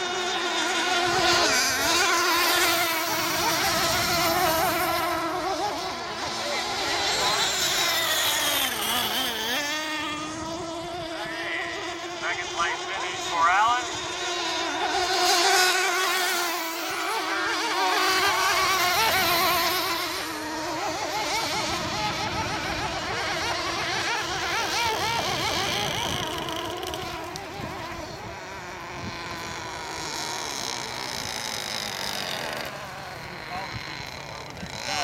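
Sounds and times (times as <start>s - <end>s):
model boat engines whining: 0.0s - 35.0s.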